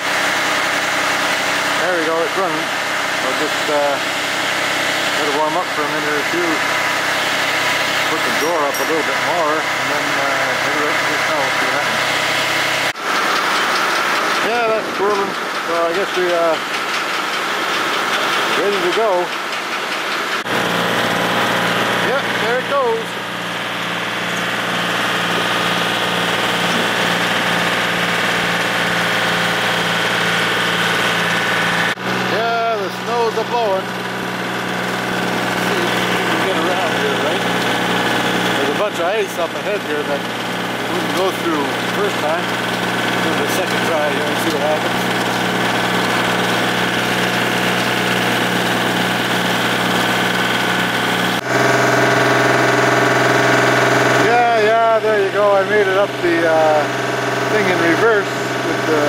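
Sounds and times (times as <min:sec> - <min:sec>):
tractor snowblower running: 0:00.0 - 0:59.0.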